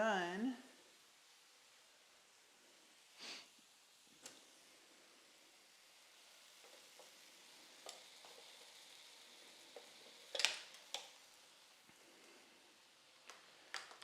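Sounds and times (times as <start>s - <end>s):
faint sizzling from pan: 0.0s - 14.0s.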